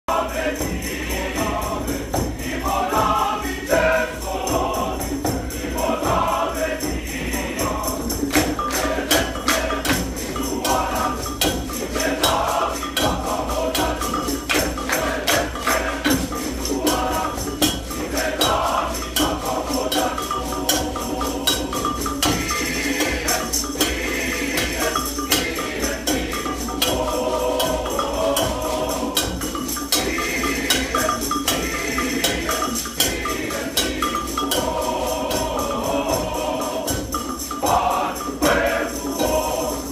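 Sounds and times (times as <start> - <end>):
men's choir singing in harmony: 0.1 - 39.9
tambourine rhythm: 0.1 - 39.9.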